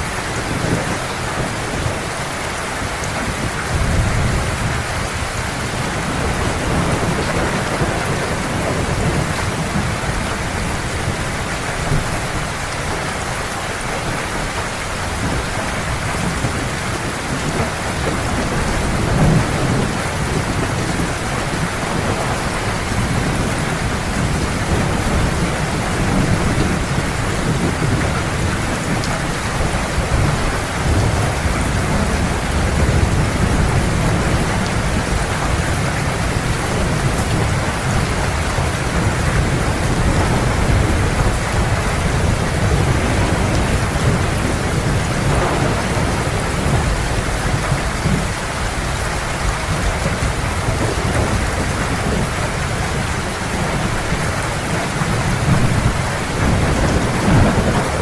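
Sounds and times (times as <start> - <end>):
heavy rain falling: 0.0 - 58.0
rolling thunder: 3.2 - 58.0.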